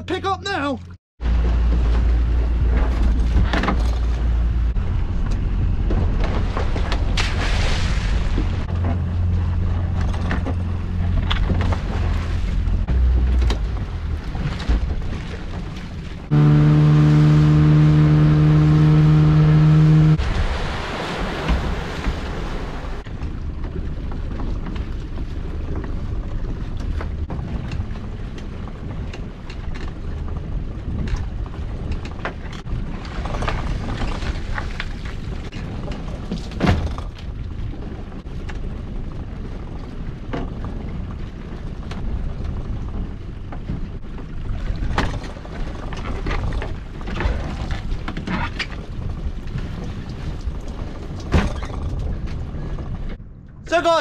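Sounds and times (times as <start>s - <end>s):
wind and water rumble: 0.0s - 54.0s.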